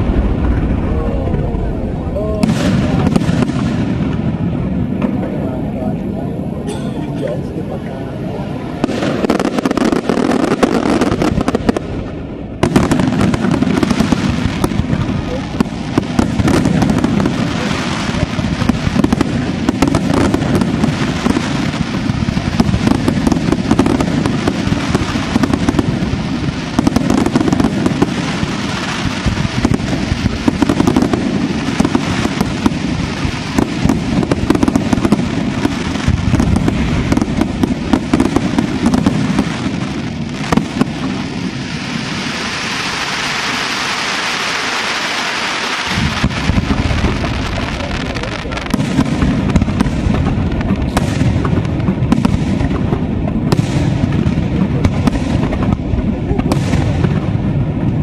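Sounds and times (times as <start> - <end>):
fireworks bangs and crackle: 0.0 - 58.0.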